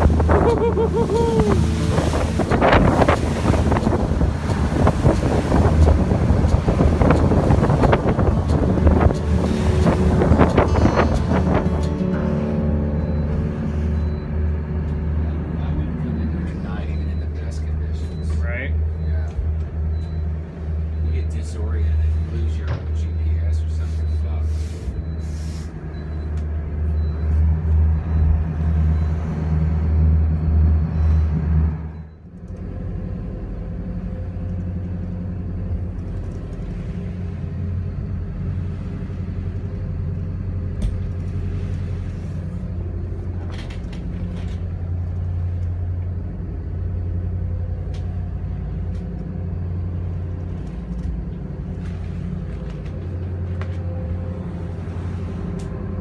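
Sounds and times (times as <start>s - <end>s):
yacht engines droning: 0.0s - 56.0s.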